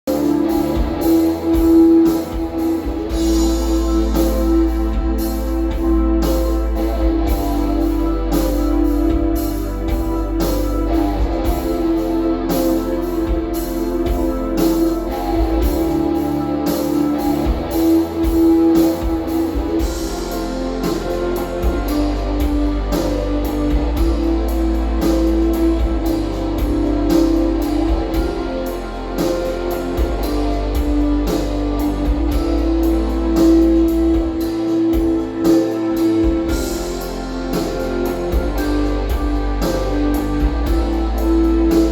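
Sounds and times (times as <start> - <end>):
guitar-led music with drums: 0.0 - 41.9.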